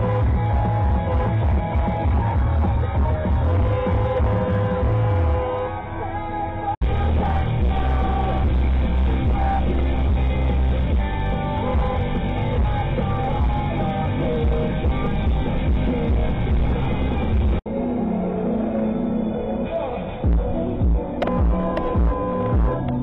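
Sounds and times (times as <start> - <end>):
music with singing: 0.0 - 23.0.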